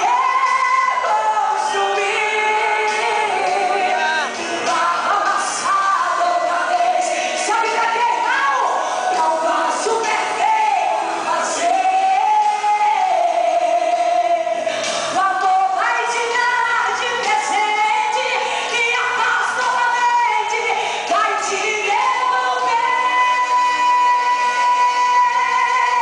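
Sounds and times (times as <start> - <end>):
backing music: 0.0 - 26.0
woman singing into microphone: 0.0 - 26.0.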